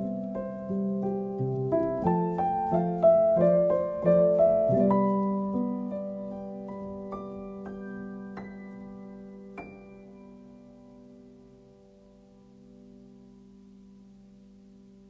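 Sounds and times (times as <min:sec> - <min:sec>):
solo piano notes over chord: 0:00.0 - 0:15.0.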